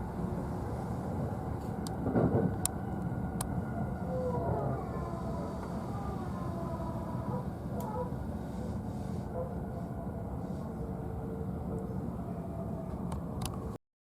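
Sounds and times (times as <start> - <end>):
train wheels rumbling on rail: 0.0 - 13.8.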